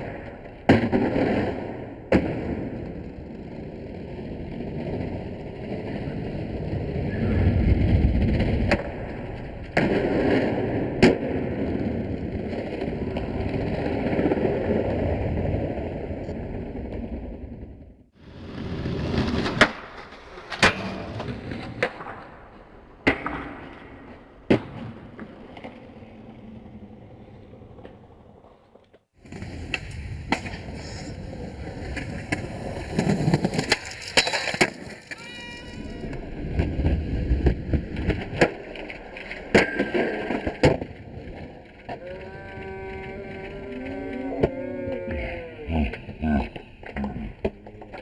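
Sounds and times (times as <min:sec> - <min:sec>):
skateboard clacks popping and landing: 0:00.0 - 0:06.8, 0:07.5 - 0:15.5, 0:16.3 - 0:35.2, 0:36.0 - 0:43.4
skateboard wheels rolling on concrete: 0:00.0 - 0:48.0.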